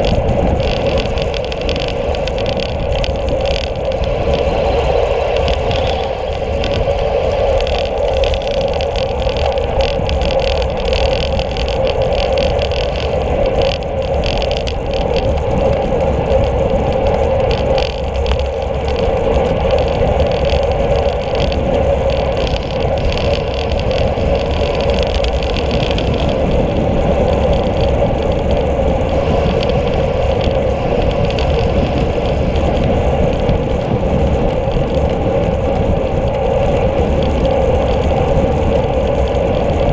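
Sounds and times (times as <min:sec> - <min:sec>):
road noise low rumble: 0:00.0 - 0:39.9
wind rushing: 0:00.0 - 0:39.9.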